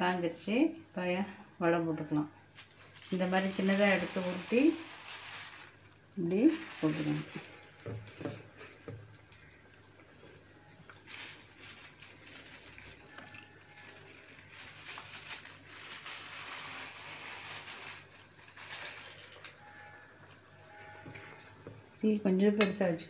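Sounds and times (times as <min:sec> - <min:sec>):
deep-frying in hot oil: 0:02.6 - 0:23.0.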